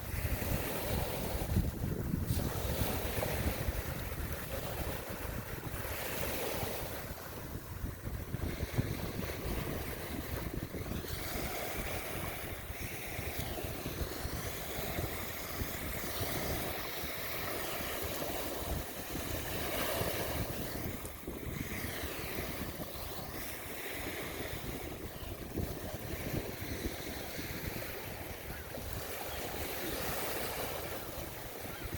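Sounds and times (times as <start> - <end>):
water lapping against shore: 0.0 - 31.9
wind buffeting microphone: 0.0 - 31.9.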